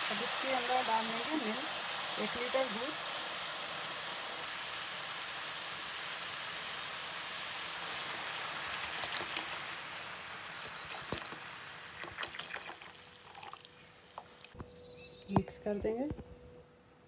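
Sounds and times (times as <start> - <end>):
milk hissing in hot pan: 0.0 - 14.5.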